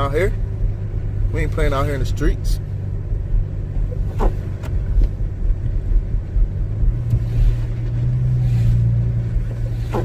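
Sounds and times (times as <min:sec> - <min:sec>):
car engine hum: 0:00.0 - 0:10.0
tyre road rumble: 0:00.0 - 0:10.0.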